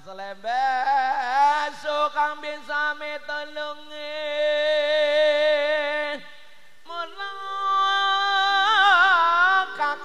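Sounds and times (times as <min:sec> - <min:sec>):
man singing high into microphone: 0:00.0 - 0:10.0.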